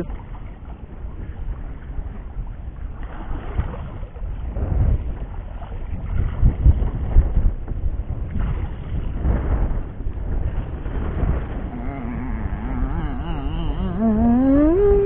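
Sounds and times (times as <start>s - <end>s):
water washing around boat: 0.0s - 15.0s
wind on microphone: 0.0s - 15.0s.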